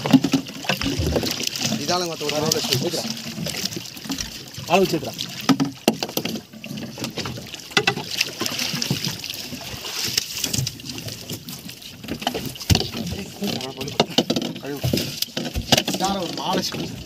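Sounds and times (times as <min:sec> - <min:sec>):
knocks and thuds on boat: 0:00.0 - 0:17.0
water splashing against boat hull: 0:00.0 - 0:17.0.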